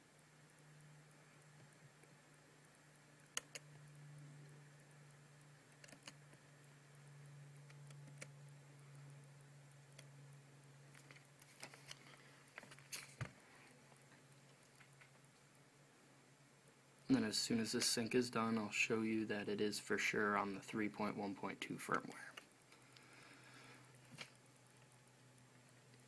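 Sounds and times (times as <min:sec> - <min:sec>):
faint steady low hum: 0:00.0 - 0:26.0.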